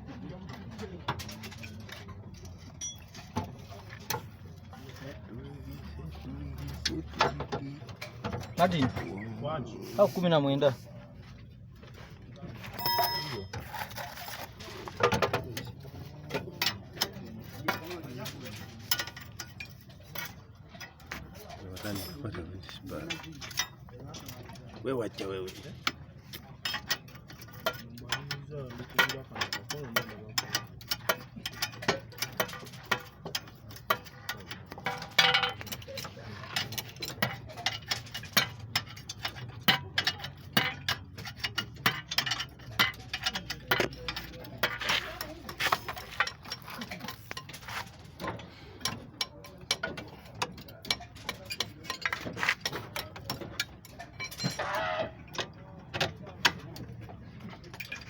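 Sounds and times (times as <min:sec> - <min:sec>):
metallic clicks and clinks: 0:01.0 - 0:05.1, 0:12.6 - 0:24.7, 0:25.4 - 0:58.0.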